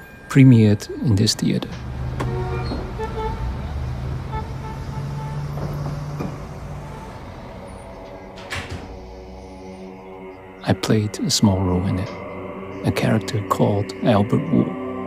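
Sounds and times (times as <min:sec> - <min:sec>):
vehicle engine humming: 0:00.0 - 0:13.5
street traffic: 0:00.0 - 0:13.9.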